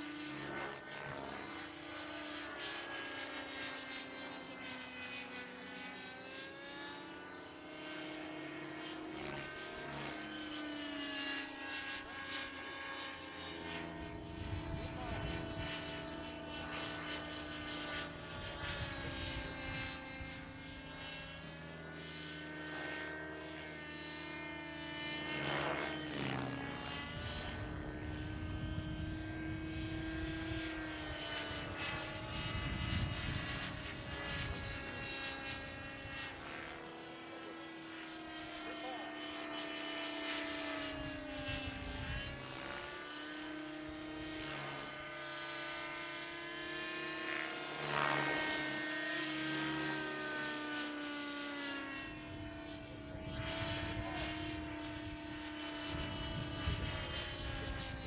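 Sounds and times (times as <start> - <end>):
model helicopter engine and rotor whine: 0.0 - 58.0.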